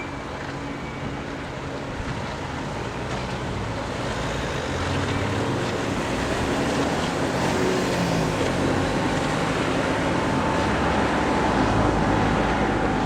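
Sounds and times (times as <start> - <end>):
distant motorboat engine at speed: 0.0 - 13.0
wind: 0.0 - 13.0.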